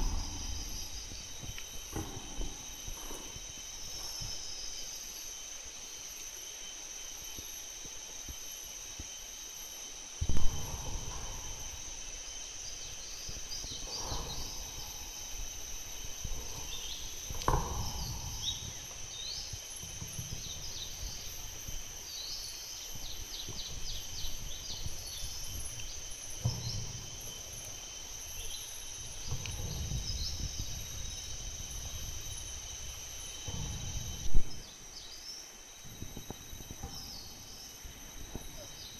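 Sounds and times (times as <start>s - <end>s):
low thumps and rumbles: 0.0s - 4.9s, 10.2s - 21.9s, 23.0s - 38.9s
birds chirping: 0.0s - 6.3s, 10.3s - 38.9s
high insect drone: 0.0s - 38.9s.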